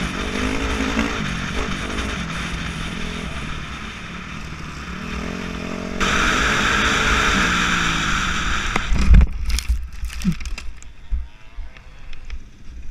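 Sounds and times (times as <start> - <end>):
dirt bike engine running: 0.0 - 10.8.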